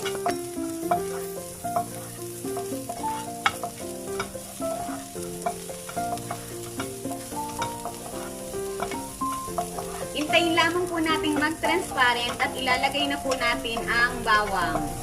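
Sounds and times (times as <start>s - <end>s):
background melody: 0.0s - 15.0s
onions sizzling in a pan: 0.0s - 15.0s.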